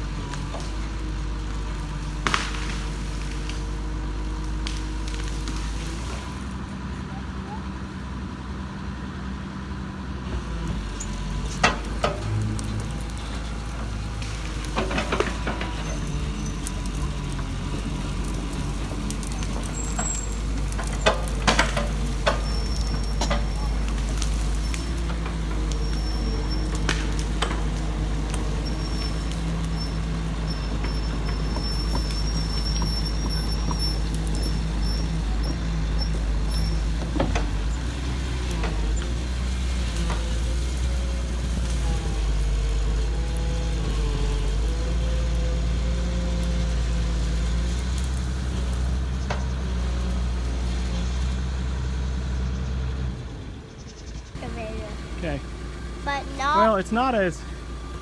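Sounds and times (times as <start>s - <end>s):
excavator engine running: 0.0s - 58.0s.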